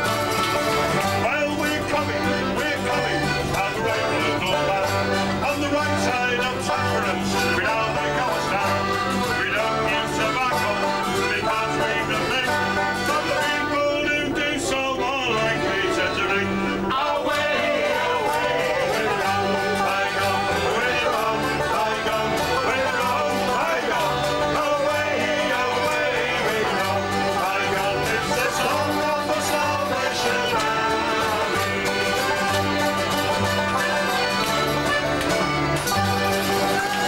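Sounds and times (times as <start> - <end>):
button accordion: 0.0 - 37.0
low held bass notes: 0.0 - 37.0
plucked banjo: 0.0 - 37.0
strummed acoustic guitar: 0.0 - 37.0.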